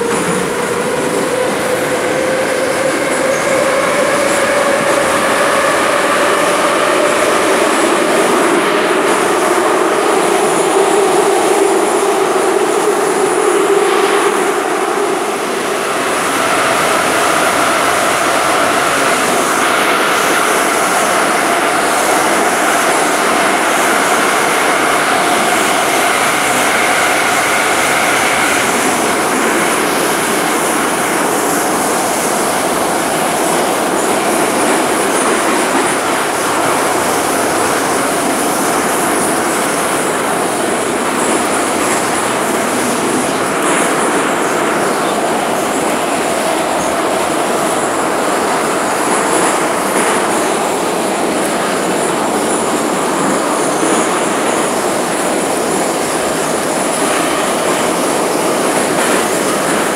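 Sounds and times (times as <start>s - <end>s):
roar of train wheels on rail: 0.0s - 59.9s.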